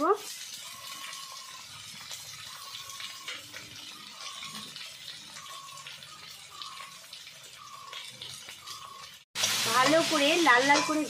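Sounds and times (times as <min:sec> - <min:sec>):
potatoes sizzling in oil: 0:00.0 - 0:11.0.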